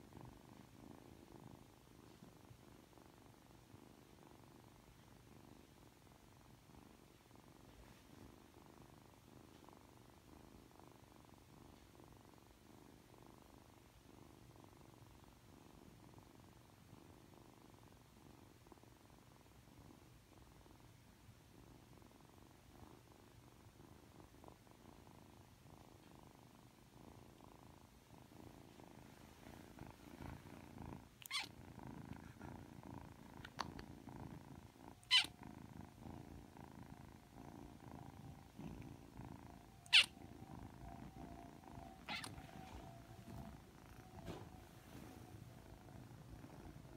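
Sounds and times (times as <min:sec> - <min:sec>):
kitten purring: 0:00.0 - 0:46.9.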